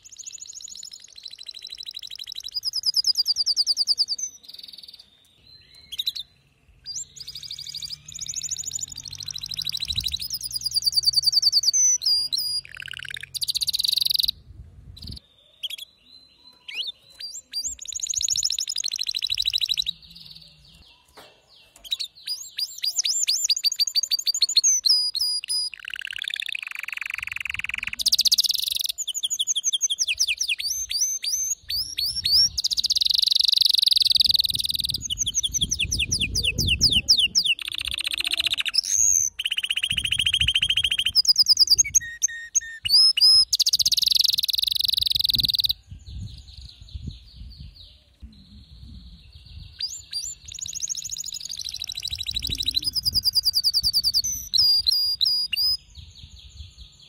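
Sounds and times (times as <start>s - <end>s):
canary singing trills: 0.0s - 14.4s, 15.0s - 57.0s.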